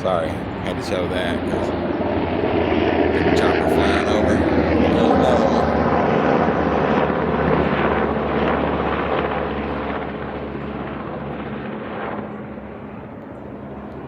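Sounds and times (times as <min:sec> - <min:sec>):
helicopter flying over: 0:00.0 - 0:14.0.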